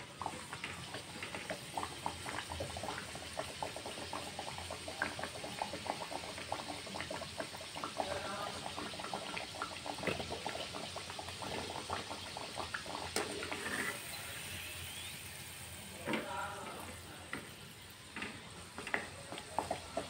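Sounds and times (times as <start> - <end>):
deep-frying bubbling sizzle: 0.0 - 20.0.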